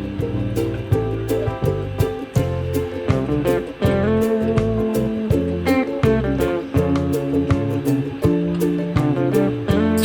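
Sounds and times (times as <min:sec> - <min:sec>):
guitar music with bass and beat: 0:00.0 - 0:10.0.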